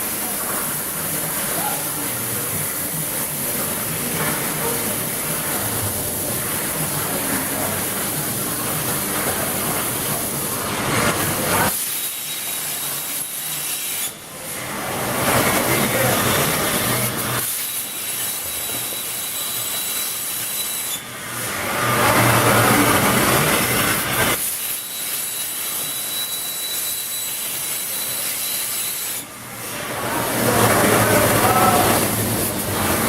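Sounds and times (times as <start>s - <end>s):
plasma torch cutting metal: 0.0s - 33.0s.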